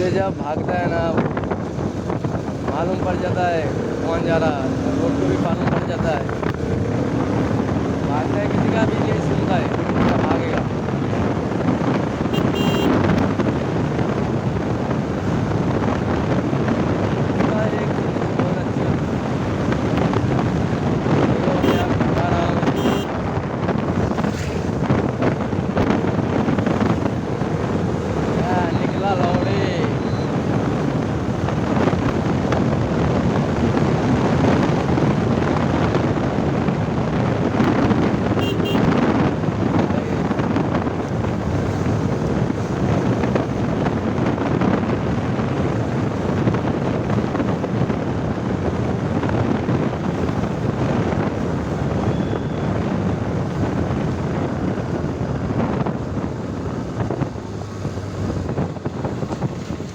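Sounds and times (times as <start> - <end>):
wind noise on microphone: 0.0 - 59.9
motorcycle engine running: 1.2 - 59.9.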